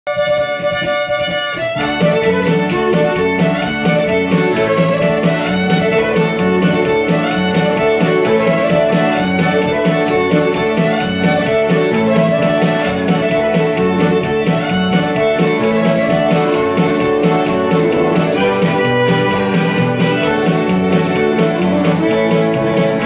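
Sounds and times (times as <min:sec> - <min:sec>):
polka band playing: 0:00.1 - 0:23.0.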